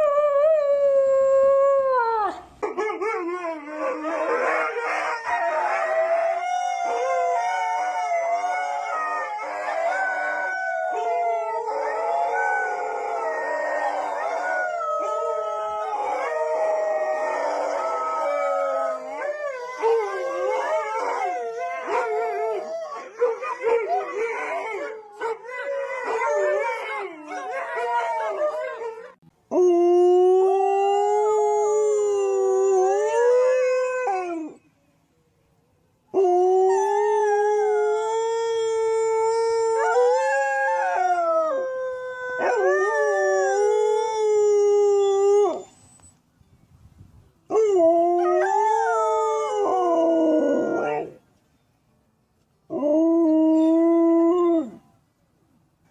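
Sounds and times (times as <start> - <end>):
dogs howling: 2.7 - 34.6, 36.2 - 45.7, 47.5 - 51.2.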